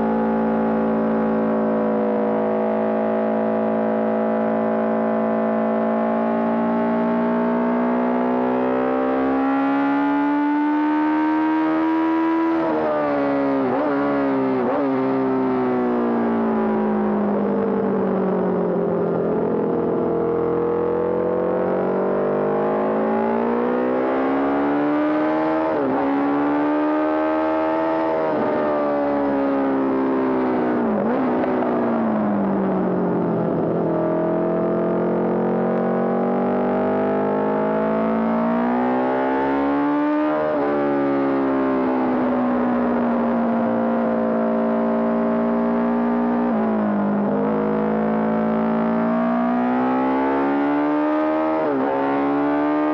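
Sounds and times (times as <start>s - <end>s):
racing motorcycle engine revving: 0.0s - 52.9s.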